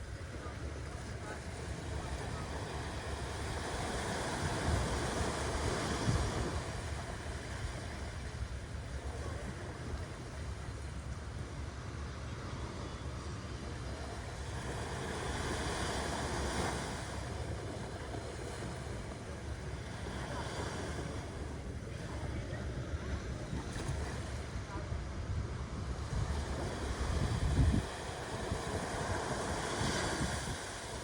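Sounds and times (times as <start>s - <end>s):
ocean waves washing: 0.0s - 31.0s.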